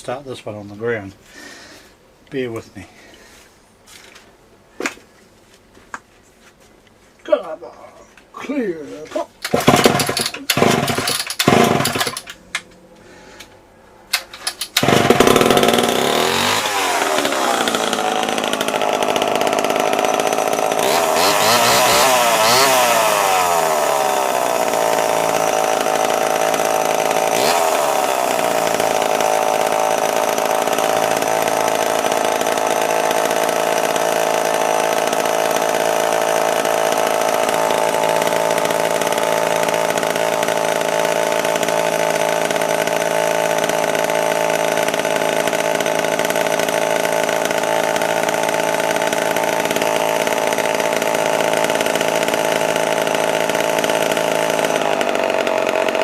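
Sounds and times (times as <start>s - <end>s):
chainsaw engine revving: 9.4s - 12.4s, 14.2s - 56.0s
starter cord pulls: 9.4s - 12.4s, 14.1s - 56.0s.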